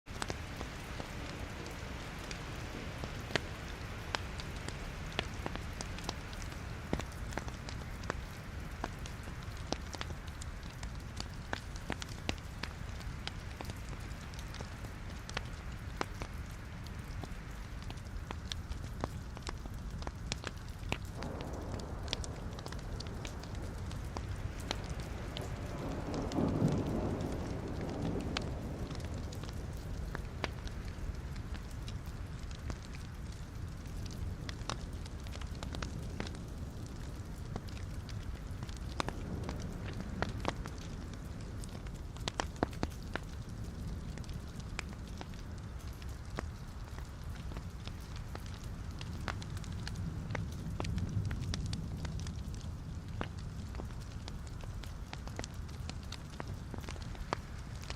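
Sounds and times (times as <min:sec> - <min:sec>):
logs burning in fireplace: 0:00.1 - 0:57.9
low rumble of flames: 0:00.1 - 0:57.9.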